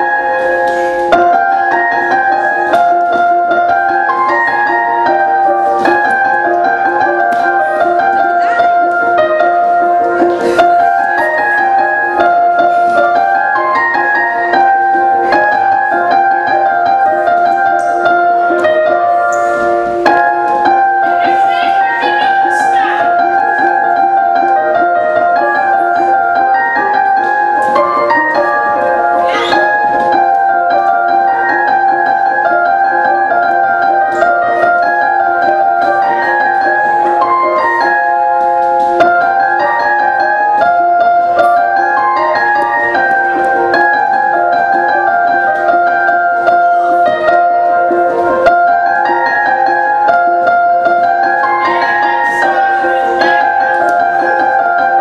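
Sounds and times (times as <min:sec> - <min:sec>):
calm piano melody: 0:00.0 - 0:55.0.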